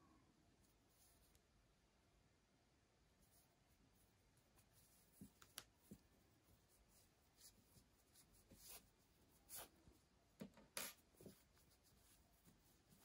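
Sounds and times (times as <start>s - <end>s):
faint yarn rustles and scratches: 0.4s - 1.8s, 3.0s - 13.0s.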